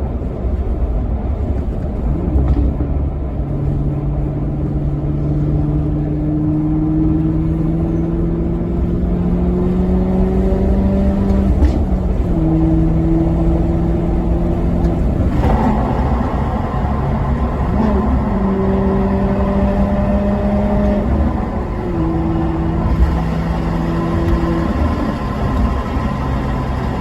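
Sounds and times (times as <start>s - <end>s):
car engine running while driving: 0.0s - 27.0s.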